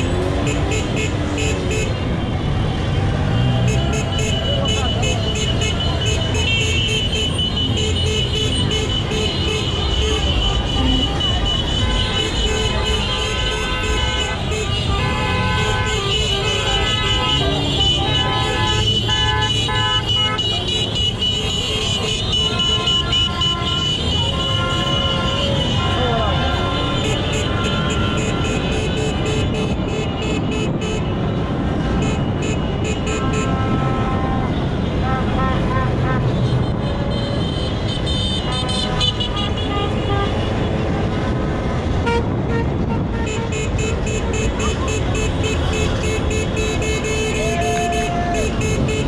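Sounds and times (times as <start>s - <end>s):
car horns honking: 0.0s - 49.0s
engines rumbling: 0.0s - 49.0s
wind: 0.0s - 49.0s.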